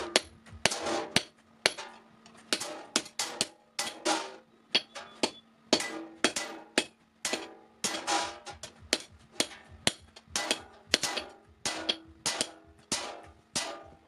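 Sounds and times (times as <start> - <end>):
hammer striking steel blade: 2.5 - 14.0.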